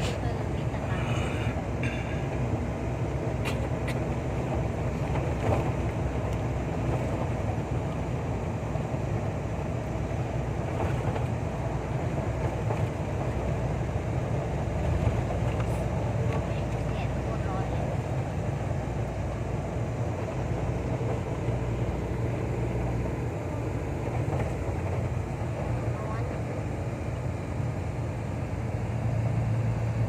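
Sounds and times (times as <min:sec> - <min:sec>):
truck engine and road noise: 0:00.0 - 0:30.0.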